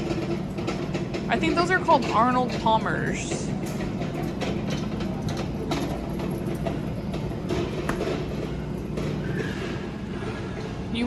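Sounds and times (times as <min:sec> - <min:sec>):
low continuous hum: 0:00.0 - 0:11.0
shopping cart wheels rattling: 0:00.0 - 0:11.0.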